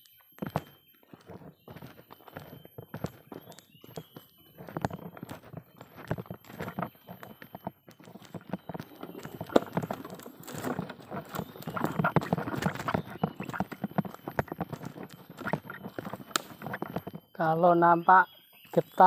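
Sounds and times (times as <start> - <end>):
wheelbarrow knocking and rattling: 0.4 - 17.3.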